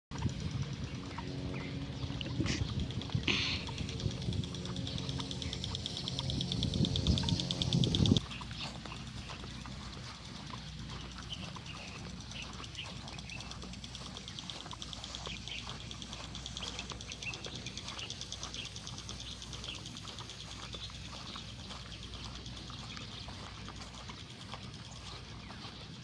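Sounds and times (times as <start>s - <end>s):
small birds chirping: 0.1s - 26.0s
steady low hum: 0.1s - 26.0s
bird trill: 0.2s - 26.0s.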